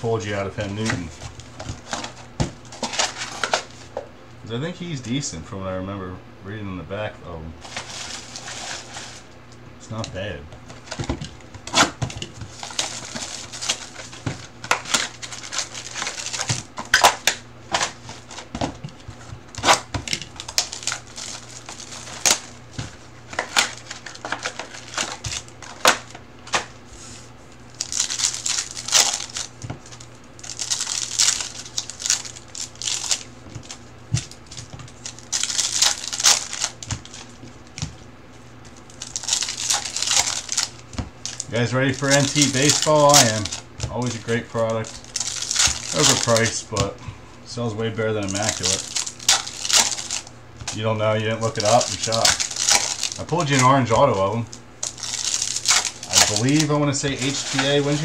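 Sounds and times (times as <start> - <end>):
foil wrappers crinkling: 0.0 - 4.0, 7.6 - 10.0, 10.6 - 58.0.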